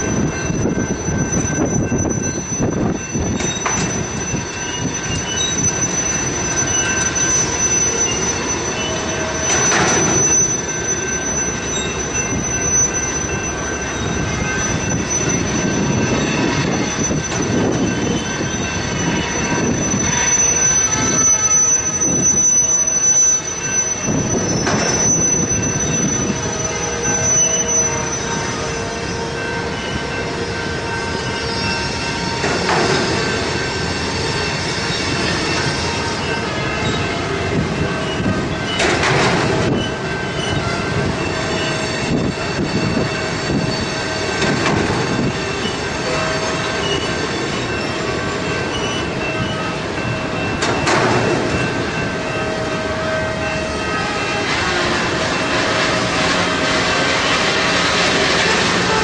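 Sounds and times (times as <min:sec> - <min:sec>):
train clattering: 0:00.0 - 0:59.0
train wheels rumbling: 0:00.0 - 0:59.0
wheels squealing: 0:00.0 - 0:59.0.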